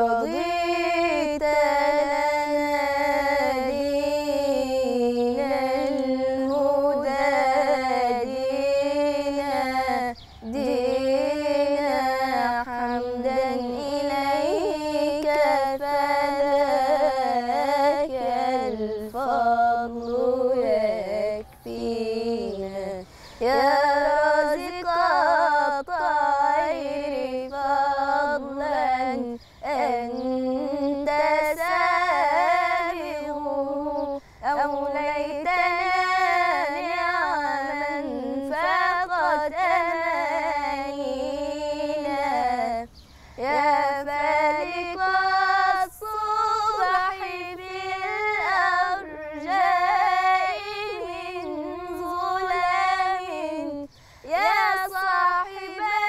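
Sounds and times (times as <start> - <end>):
girl singing religious chant: 0.0 - 56.0.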